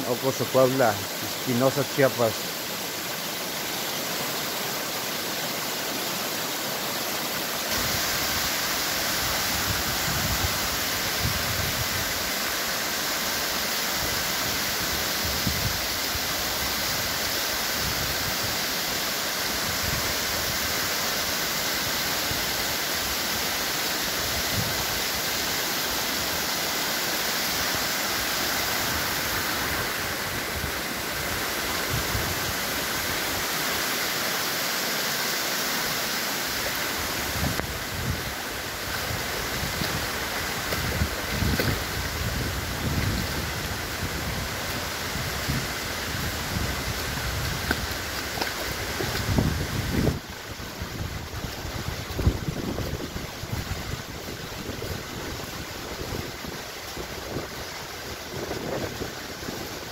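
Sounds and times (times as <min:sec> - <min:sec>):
waterfall rushing over rock: 0:00.0 - 0:59.9.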